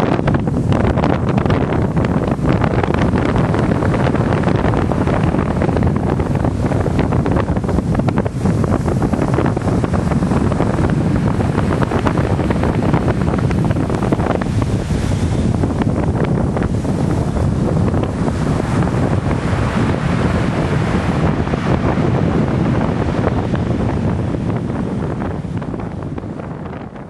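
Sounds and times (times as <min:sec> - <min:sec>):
storm wind buffeting microphone: 0:00.0 - 0:27.0.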